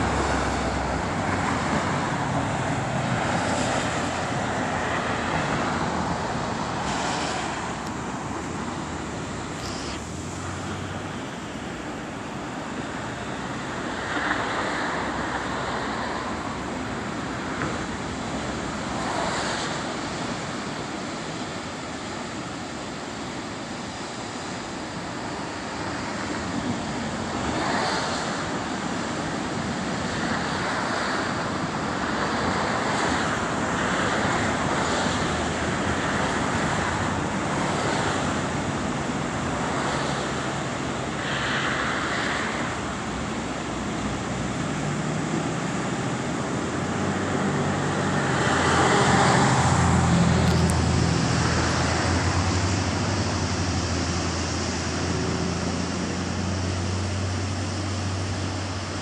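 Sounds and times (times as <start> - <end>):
ocean surf washing over rocks: 0.0 - 59.0
road traffic: 0.0 - 59.0.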